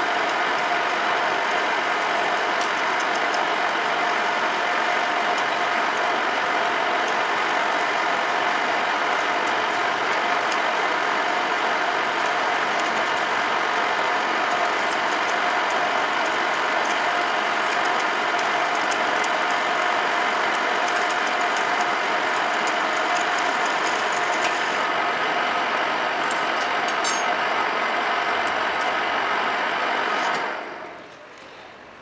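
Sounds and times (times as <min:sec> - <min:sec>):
metal lathe whirring: 0:00.0 - 0:32.0.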